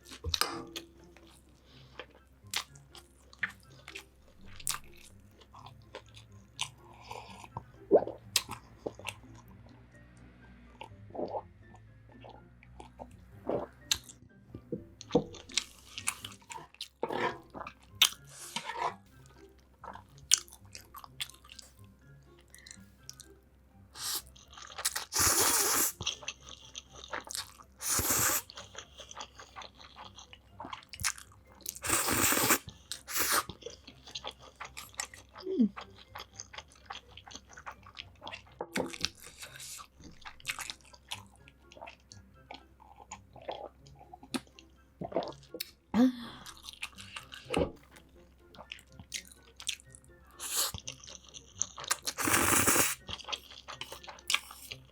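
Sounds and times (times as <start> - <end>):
person chewing crunchy food: 0.0 - 9.5, 10.8 - 11.5, 12.2 - 21.8, 24.0 - 45.8, 46.4 - 54.9.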